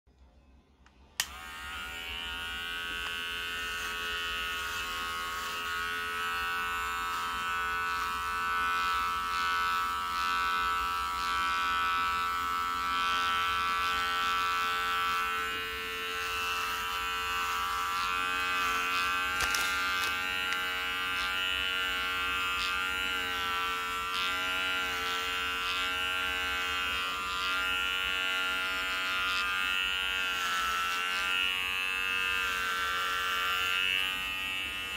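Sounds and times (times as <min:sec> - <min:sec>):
electric hair clipper buzzing: 0:01.1 - 0:34.9.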